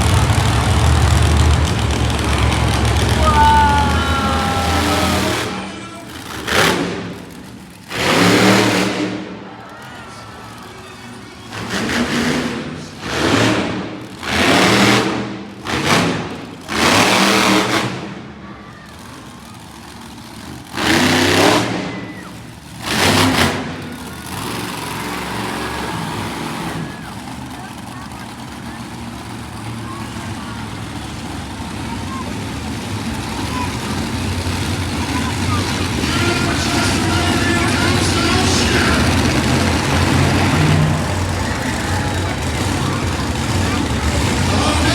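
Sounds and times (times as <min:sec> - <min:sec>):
low engine din: 0:00.0 - 0:44.9
monster truck engine revving: 0:00.0 - 0:44.9.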